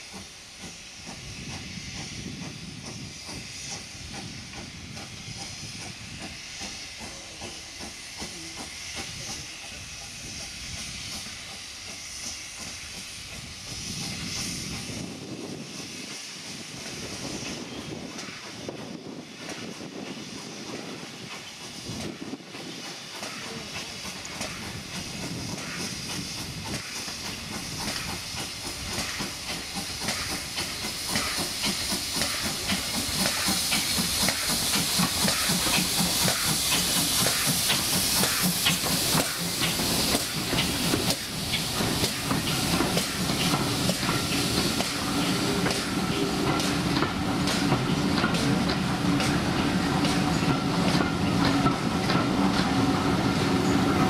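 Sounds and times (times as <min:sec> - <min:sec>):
loud hiss of steam: 0:00.0 - 0:54.0
steam locomotive exhaust beats: 0:00.0 - 0:54.0
train coaches rolling past: 0:00.0 - 0:54.0.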